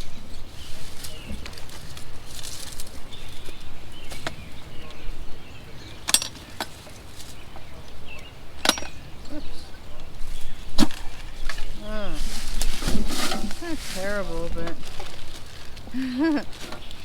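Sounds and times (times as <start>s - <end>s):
rustling through brush: 0.0s - 17.0s.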